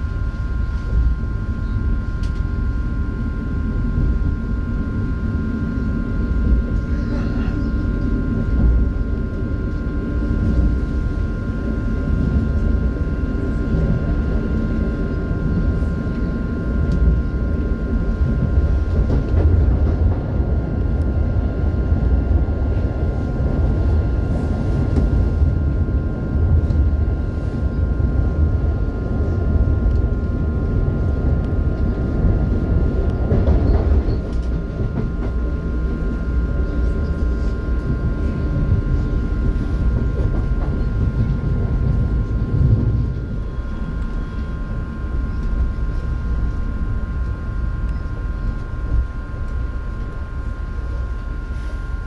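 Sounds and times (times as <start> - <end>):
high electric whine: 0.0 - 19.7, 20.3 - 52.0
train wheels rumbling on track: 0.0 - 52.0.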